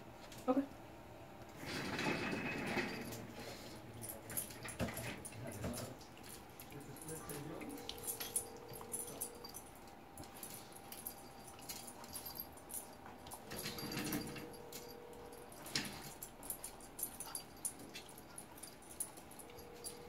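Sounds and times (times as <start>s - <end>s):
chain collar clinking: 1.9s - 20.0s.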